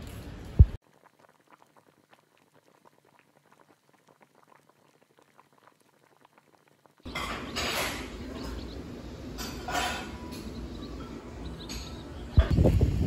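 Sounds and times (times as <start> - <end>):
stew bubbling in a pot: 0.6 - 12.7.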